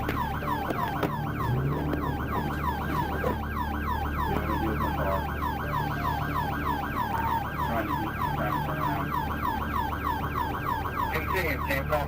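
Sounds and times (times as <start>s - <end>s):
low vehicle hum: 0.0s - 12.0s
police siren fast yelp: 0.0s - 12.0s.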